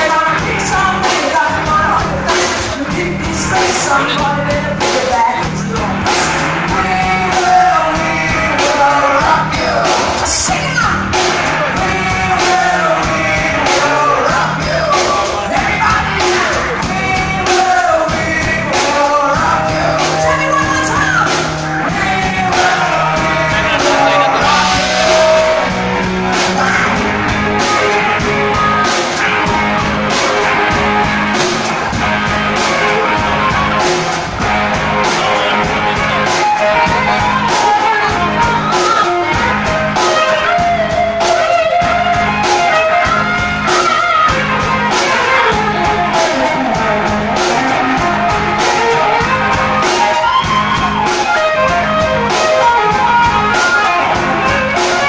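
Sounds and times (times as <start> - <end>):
drums keeping a steady beat: 0.0 - 55.0
electric guitar: 0.0 - 55.0
person singing: 0.0 - 55.0.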